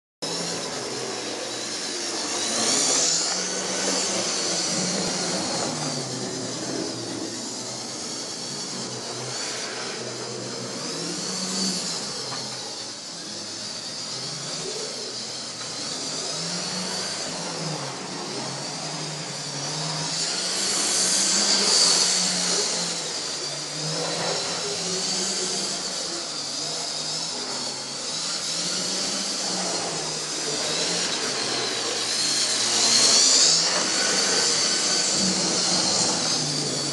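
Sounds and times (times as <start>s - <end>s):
model locomotive motors whirring: 0.2s - 36.9s.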